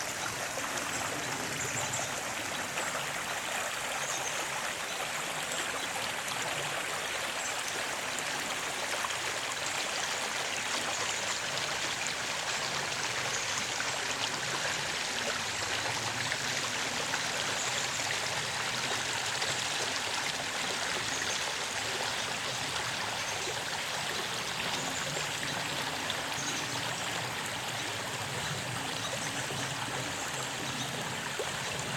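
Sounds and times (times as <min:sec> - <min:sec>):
stream rushing: 0:00.0 - 0:31.9.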